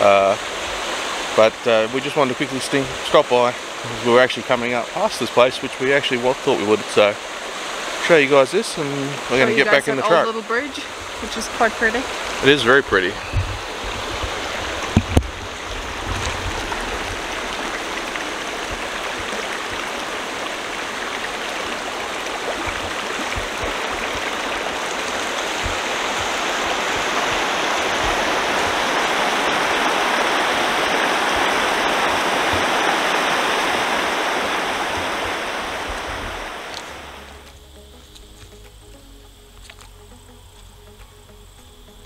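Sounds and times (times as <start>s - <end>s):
river water rushing over rocks: 0.0s - 37.5s.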